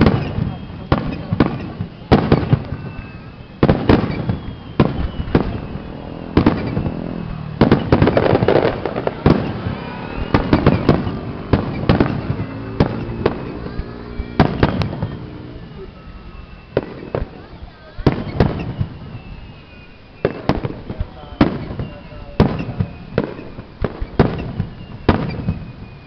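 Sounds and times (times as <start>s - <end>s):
fireworks bursting with sharp bangs: 0.0s - 26.0s.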